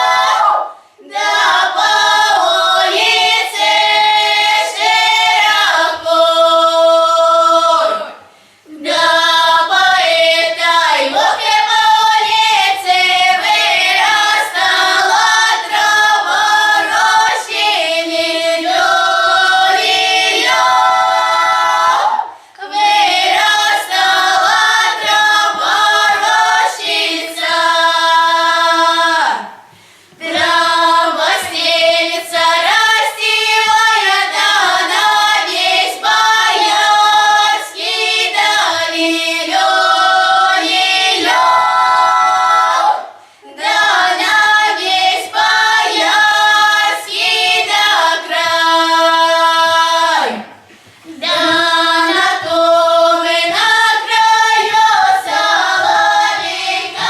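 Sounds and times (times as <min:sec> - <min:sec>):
choir of young voices singing: 0:00.0 - 0:57.0.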